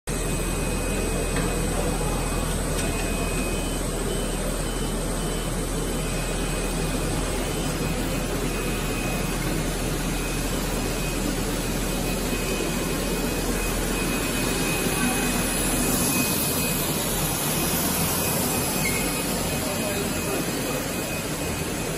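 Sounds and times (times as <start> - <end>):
faint high whine: 0.1 - 21.9
machine drone with hum: 0.1 - 21.9.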